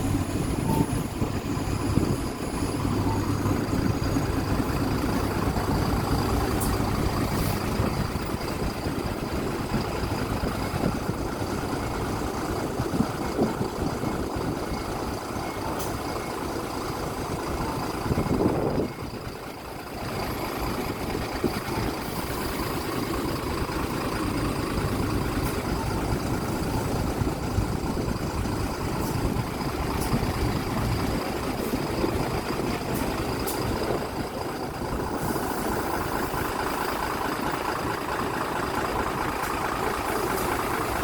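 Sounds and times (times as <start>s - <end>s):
bus diesel engine idling: 0.0s - 41.0s.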